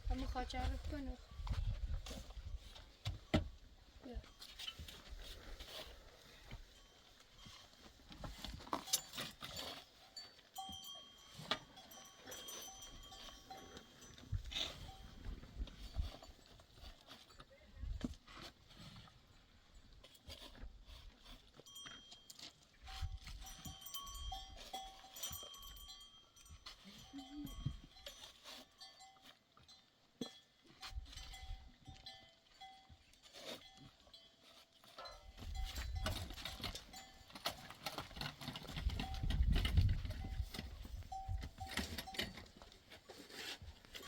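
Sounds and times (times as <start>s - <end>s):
animal bells clinking: 4.0s - 44.0s.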